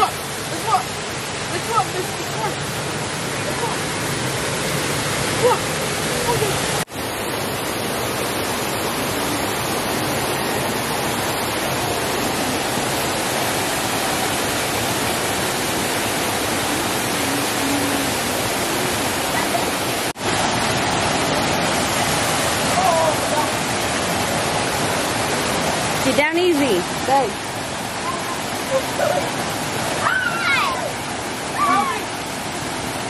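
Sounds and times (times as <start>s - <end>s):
waterfall rushing and splashing: 0.0s - 33.0s.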